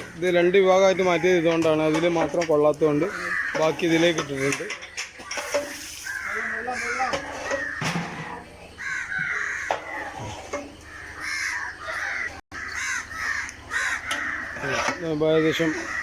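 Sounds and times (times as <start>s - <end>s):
birds cawing: 0.0s - 16.0s.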